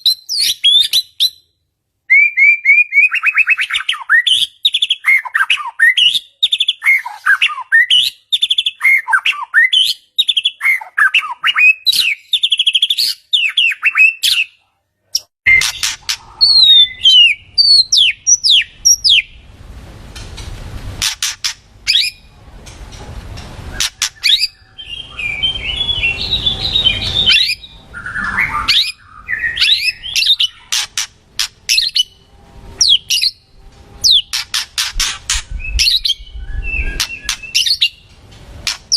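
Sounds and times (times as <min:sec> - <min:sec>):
songbird whistling and trilling: 0:00.0 - 0:14.6, 0:15.2 - 0:19.4, 0:21.0 - 0:22.3, 0:23.7 - 0:33.4, 0:34.0 - 0:38.1.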